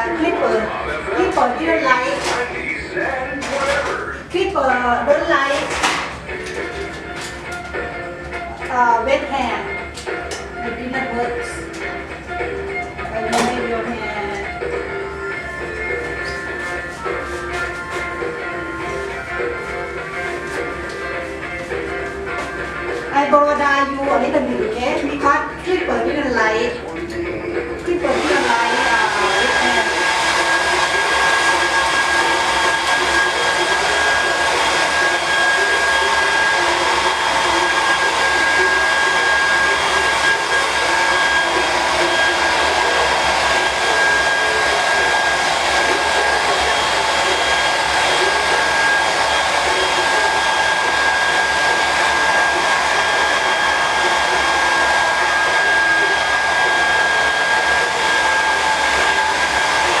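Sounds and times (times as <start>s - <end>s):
hair dryer blowing: 0.0s - 60.0s.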